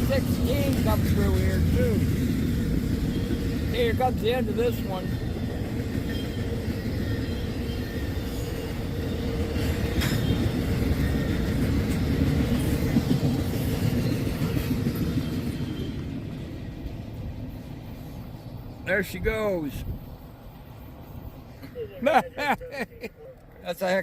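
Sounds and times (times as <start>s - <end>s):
train wheels rumbling: 0.0s - 22.8s.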